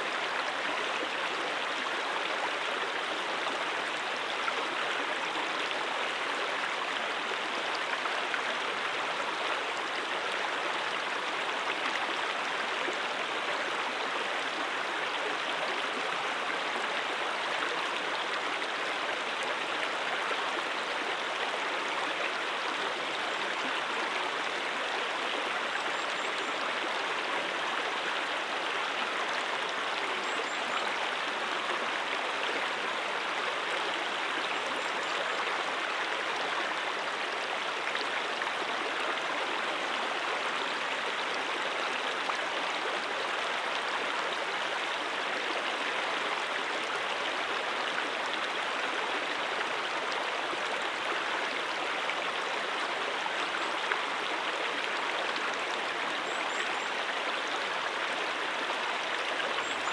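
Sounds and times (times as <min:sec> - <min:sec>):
brook water running over rocks: 0:00.0 - 0:59.9.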